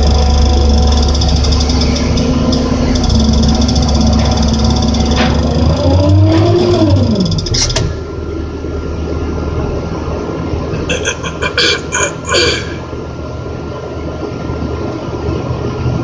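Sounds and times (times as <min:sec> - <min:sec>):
crane engine running under load: 0:00.0 - 0:16.0.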